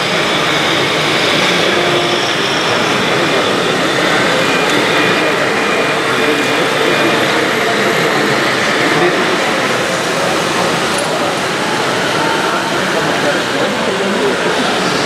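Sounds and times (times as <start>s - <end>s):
background chatter: 0.0s - 15.0s
model construction machines working: 0.0s - 15.0s.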